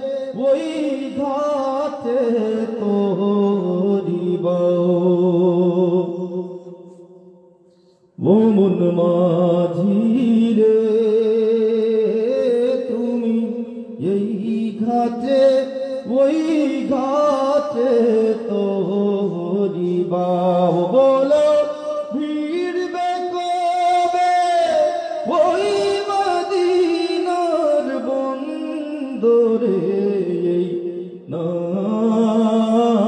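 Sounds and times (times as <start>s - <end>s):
man singing into a microphone: 0.0s - 33.0s.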